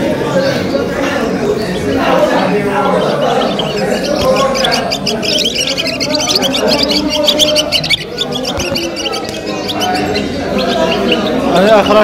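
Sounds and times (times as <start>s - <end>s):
murmur of voices: 0.0s - 12.0s
songbirds chirping and twittering: 0.0s - 12.0s.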